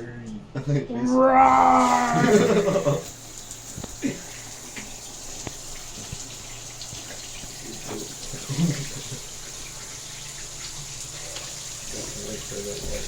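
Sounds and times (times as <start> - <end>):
shower water spraying: 1.6 - 13.0.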